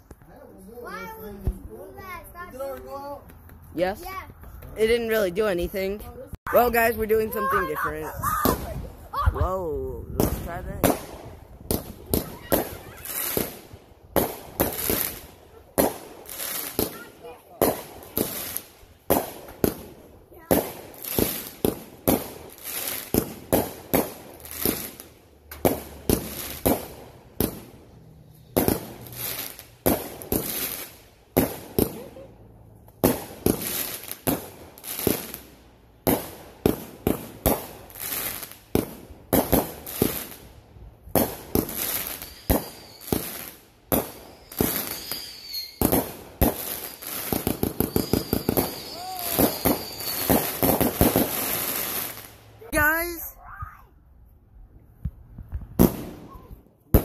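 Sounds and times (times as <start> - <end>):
fireworks bangs and crackling pops: 8.4 - 9.4, 10.1 - 53.1, 55.0 - 57.0.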